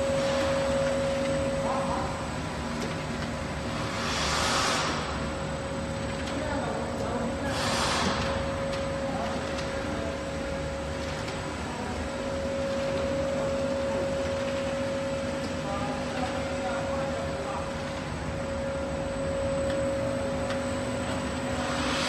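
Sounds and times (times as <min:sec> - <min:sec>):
industrial machine hum: 0:00.0 - 0:22.0.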